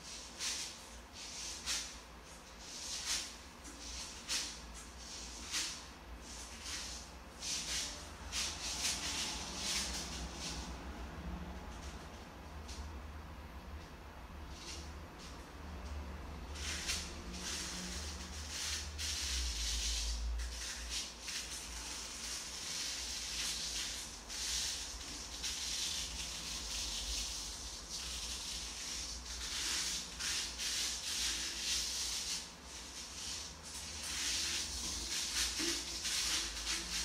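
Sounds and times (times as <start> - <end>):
soft hissing noise: 0.0 - 13.0, 14.4 - 37.0.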